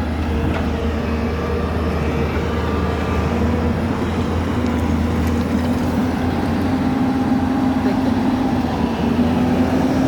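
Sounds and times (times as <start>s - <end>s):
excavator engine running: 0.0s - 10.0s.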